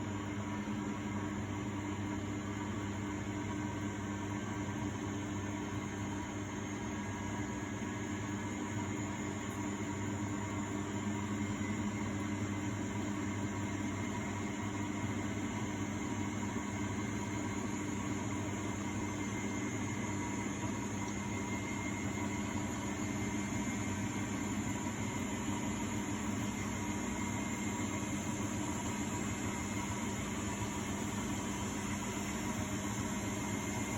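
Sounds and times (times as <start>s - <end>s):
washing machine motor hum: 0.0s - 33.9s.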